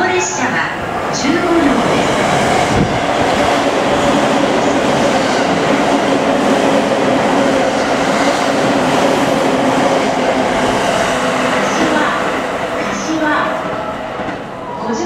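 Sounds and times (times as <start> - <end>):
rush of wheels on rails: 0.3 - 15.0.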